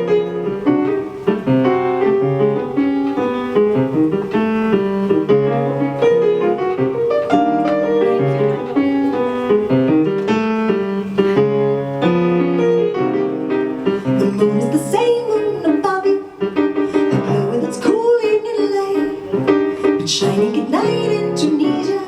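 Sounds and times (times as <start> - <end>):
jazz piano playing: 0.0 - 22.0.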